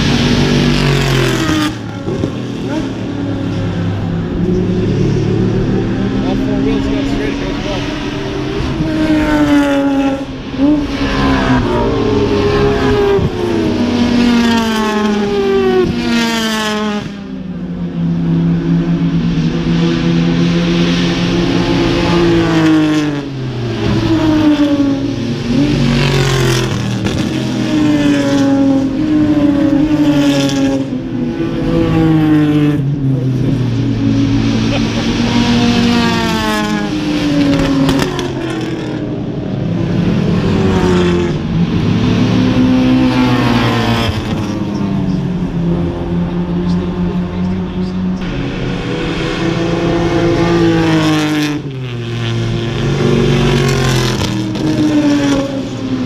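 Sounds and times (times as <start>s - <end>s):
race cars accelerating: 0.0s - 56.0s.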